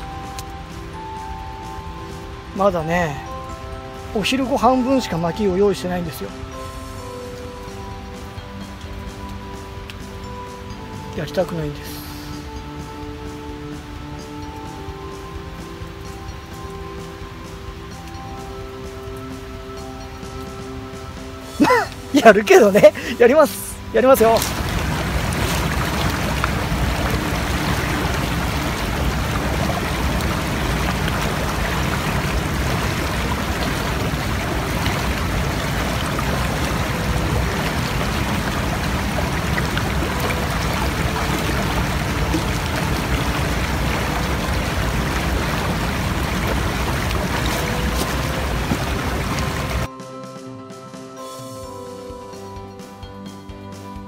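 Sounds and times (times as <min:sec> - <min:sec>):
stream rushing over stones: 0:00.0 - 0:49.9.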